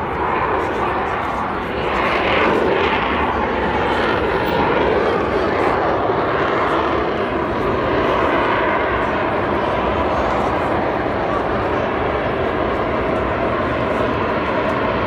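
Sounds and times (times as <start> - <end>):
jet roaring overhead: 0.0 - 15.0.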